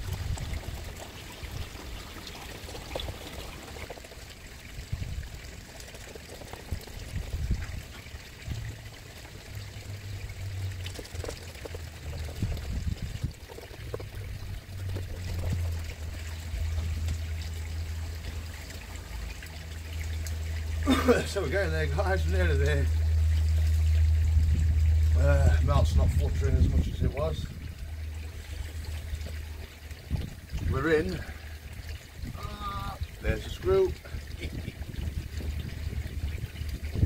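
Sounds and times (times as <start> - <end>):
low uneven rumble: 0.0 - 37.0
water trickling and pouring: 0.0 - 37.0.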